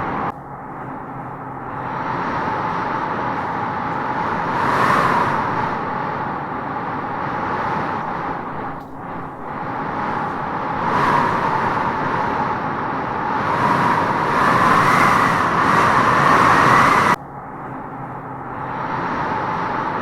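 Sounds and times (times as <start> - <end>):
wind howling through trees: 0.0 - 20.0.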